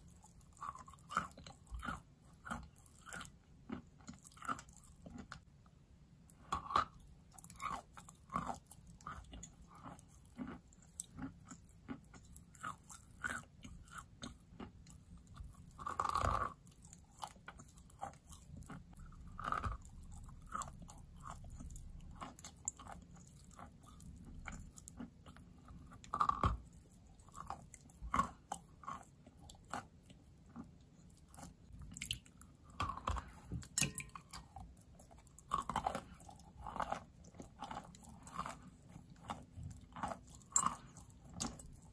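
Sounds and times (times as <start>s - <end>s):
chalk crunching while chewed: 0.0s - 5.5s, 6.3s - 41.9s.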